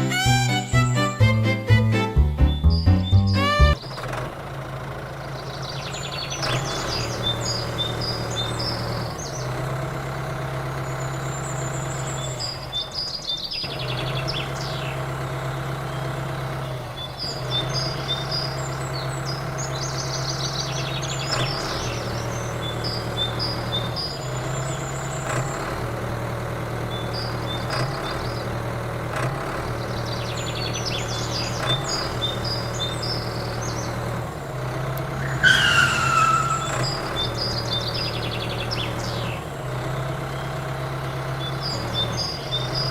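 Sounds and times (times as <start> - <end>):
birds chirping: 0.0 - 4.0, 5.1 - 9.8, 10.7 - 25.7, 26.7 - 28.6, 29.7 - 42.9
small diesel engine running: 0.0 - 42.9.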